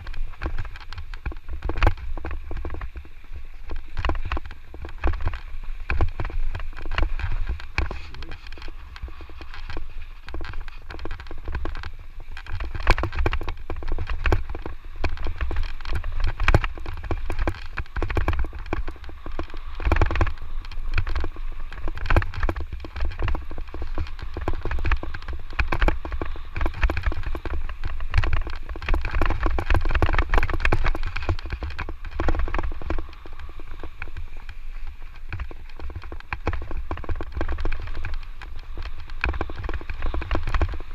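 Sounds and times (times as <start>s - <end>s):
bike rattling over bumps: 0.0s - 40.9s
tyres on sandy ground: 0.0s - 40.9s
wind buffeting microphone: 0.0s - 40.9s.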